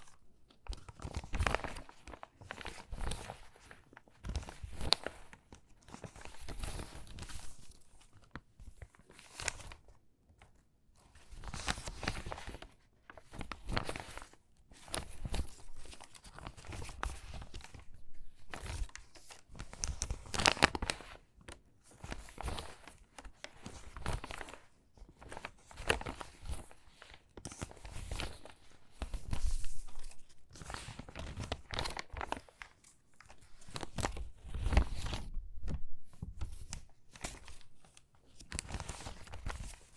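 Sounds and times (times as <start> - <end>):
crinkly magazine pages crackling: 0.0 - 39.9.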